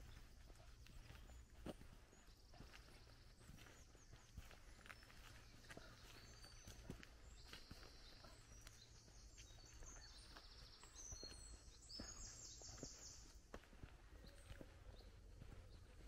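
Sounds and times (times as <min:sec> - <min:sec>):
birds trilling and chirping: 0:00.0 - 0:16.0
footsteps on dirt track: 0:00.0 - 0:16.0.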